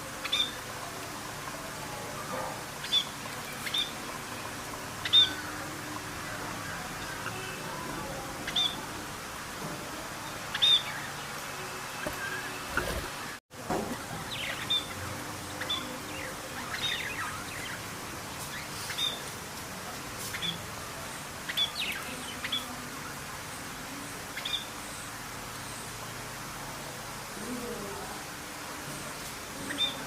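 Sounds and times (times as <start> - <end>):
small birds chirping: 0.0 - 26.4, 28.9 - 30.0
steady background hiss: 0.0 - 30.0.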